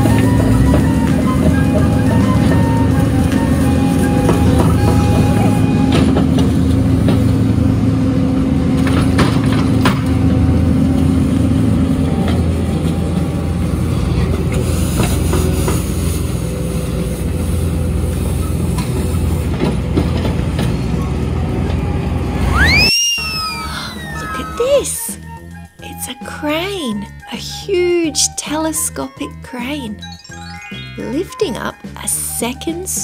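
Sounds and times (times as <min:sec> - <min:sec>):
diesel machinery engine hum: 0:00.0 - 0:30.2.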